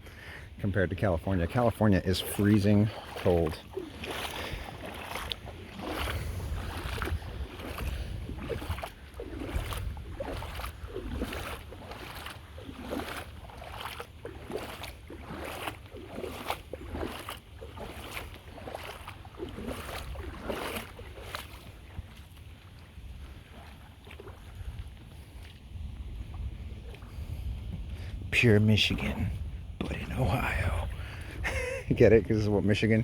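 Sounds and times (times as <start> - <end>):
wind rumble on microphone: 0.0 - 33.0
feet splashing through water: 0.3 - 32.0.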